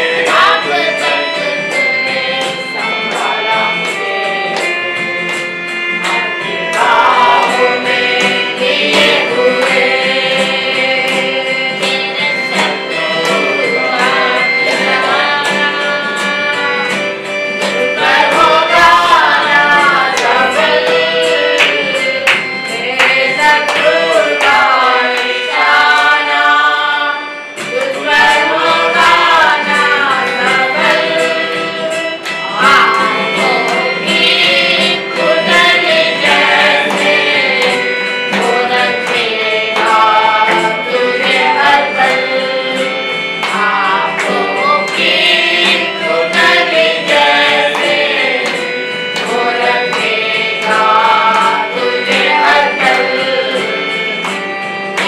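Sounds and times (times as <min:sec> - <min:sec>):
instrumental accompaniment with percussion: 0:00.0 - 0:55.0
person singing worship song: 0:00.0 - 0:55.0.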